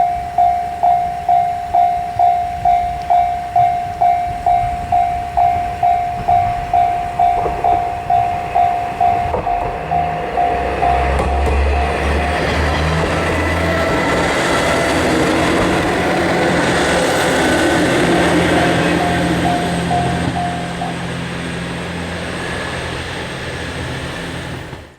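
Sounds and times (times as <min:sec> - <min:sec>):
level crossing bell clanging: 0:00.0 - 0:22.6
train rumble and rail noise: 0:00.0 - 0:24.9.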